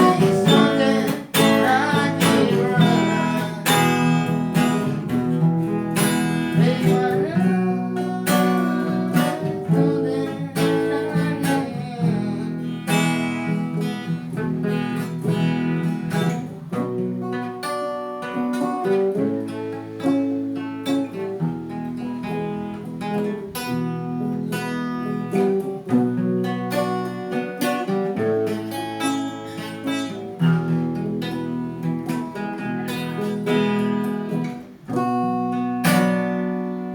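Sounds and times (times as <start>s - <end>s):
acoustic guitar strumming chords: 0.0s - 36.9s.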